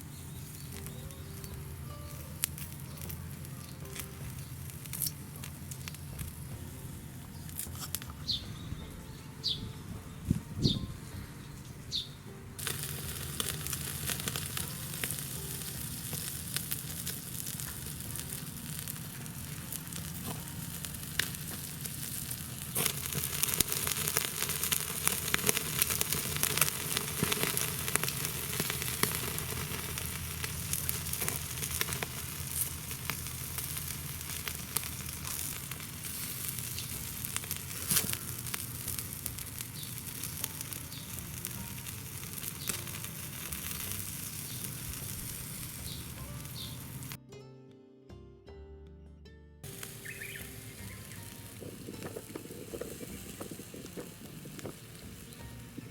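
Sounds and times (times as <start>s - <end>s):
wood fire crackling: 0.0s - 8.6s, 12.6s - 47.2s, 49.6s - 55.9s.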